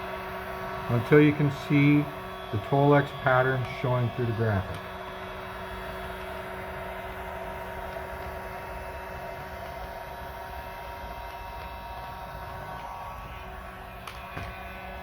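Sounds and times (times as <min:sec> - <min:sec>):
hot-air blower fan hissing: 0:00.0 - 0:15.0.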